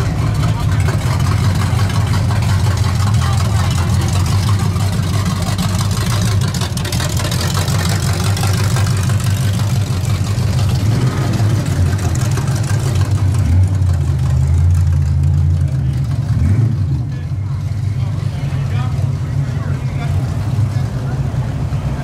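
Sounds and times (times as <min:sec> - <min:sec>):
car engines exhaust rumble: 0:00.0 - 0:22.0.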